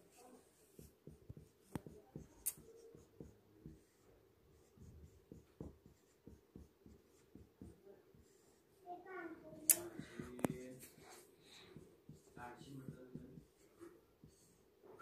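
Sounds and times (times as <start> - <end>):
marker writing on whiteboard: 0.0 - 8.6, 9.6 - 15.0.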